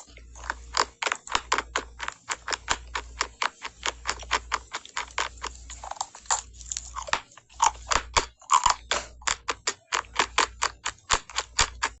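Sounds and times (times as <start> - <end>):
crunchy food being chewed: 0.0 - 12.0.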